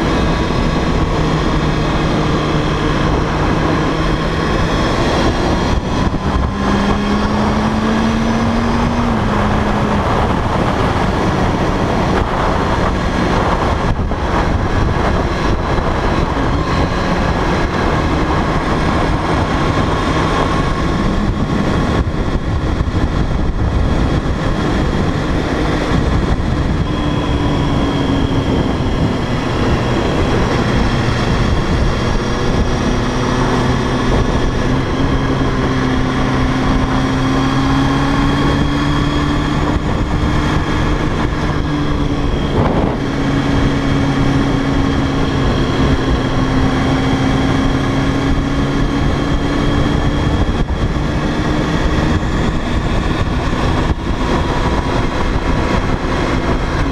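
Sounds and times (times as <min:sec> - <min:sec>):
motorcycle engine hum: 0:00.0 - 0:56.9
wind rush on microphone: 0:00.0 - 0:56.9.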